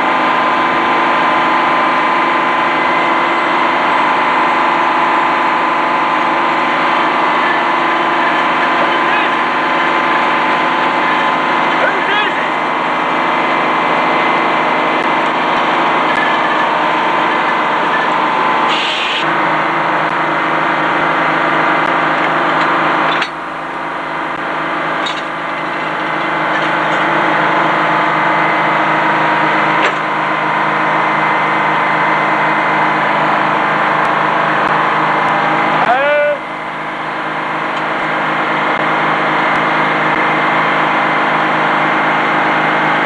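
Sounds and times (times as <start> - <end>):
low engine hum: 0.0 - 43.0
sawmill mechanical din: 0.0 - 43.0.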